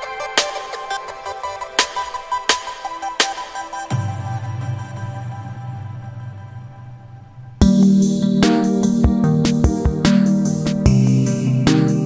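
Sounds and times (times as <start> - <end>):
music with drum beats: 0.0 - 12.0.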